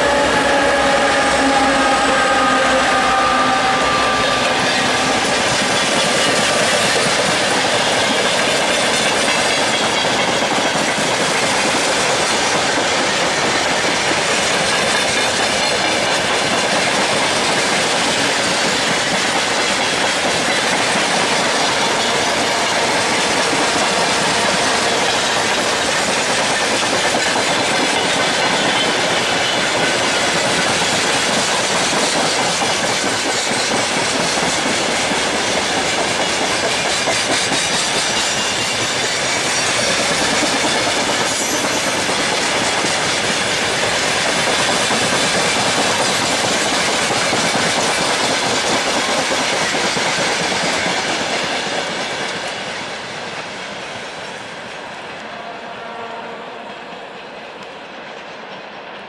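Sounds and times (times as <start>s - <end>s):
freight train wheels clattering: 3.8s - 55.3s.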